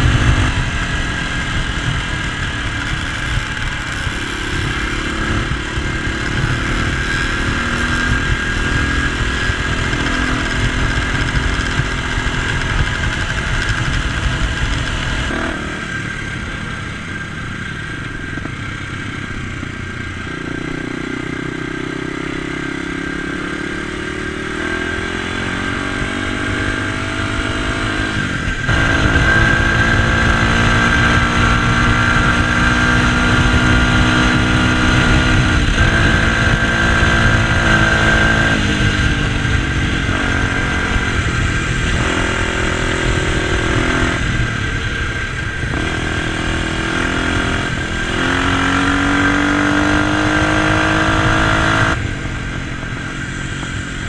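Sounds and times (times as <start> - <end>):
dirt bike engine running: 0.0 - 54.0
wind on microphone: 0.0 - 54.0.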